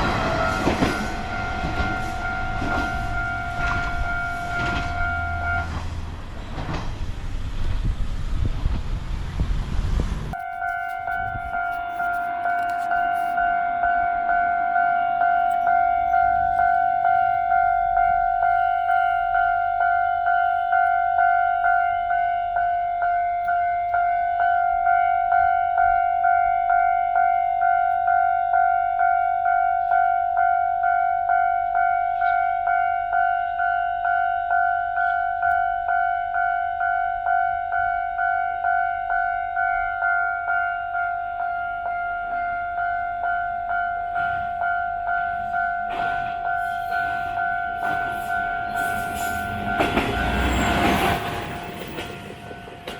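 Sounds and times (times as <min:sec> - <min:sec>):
railroad crossing alarm dinging: 0:00.0 - 0:08.5, 0:10.3 - 0:52.9.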